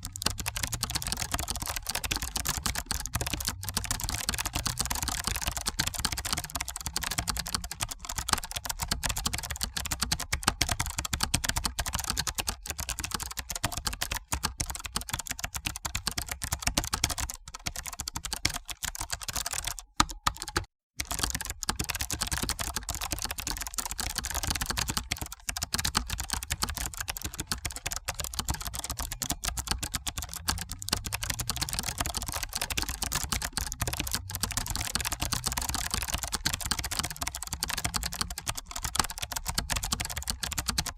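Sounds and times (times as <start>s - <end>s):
keyboard typing clicks: 0.0s - 40.9s.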